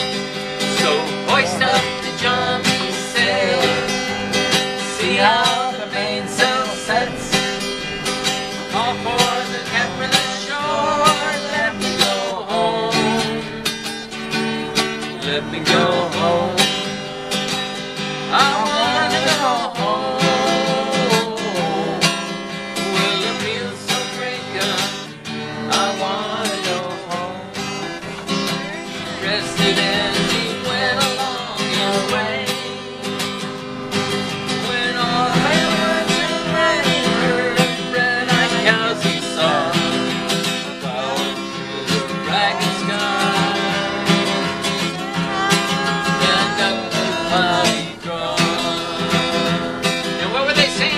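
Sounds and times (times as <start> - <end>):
acoustic guitar strumming: 0.0 - 50.9
voices singing: 0.0 - 50.9.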